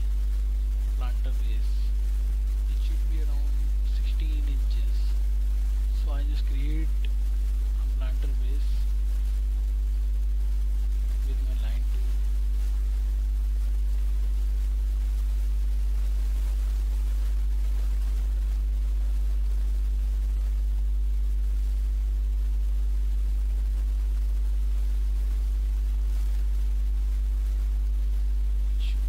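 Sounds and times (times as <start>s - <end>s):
electrical mains hum: 0.0s - 29.0s
faint hiss: 0.0s - 29.0s
higher hum tones: 0.0s - 29.0s.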